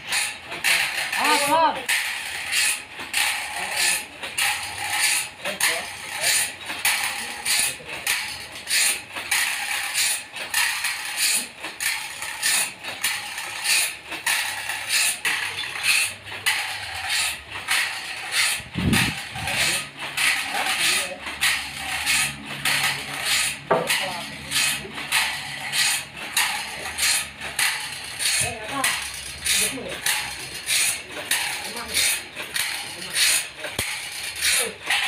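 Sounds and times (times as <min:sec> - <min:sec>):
sawmill machinery clattering: 0:00.0 - 0:35.0.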